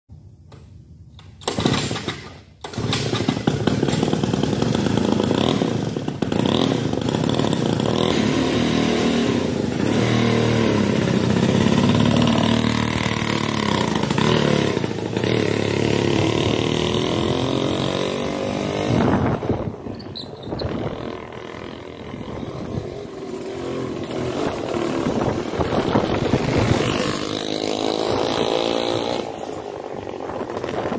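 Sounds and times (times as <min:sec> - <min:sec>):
two-stroke go-kart engine: 0:01.4 - 0:30.9.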